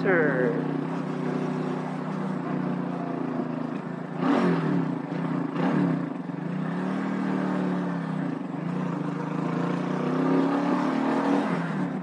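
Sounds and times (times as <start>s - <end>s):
motorcycle engine slowing: 0.0s - 10.4s.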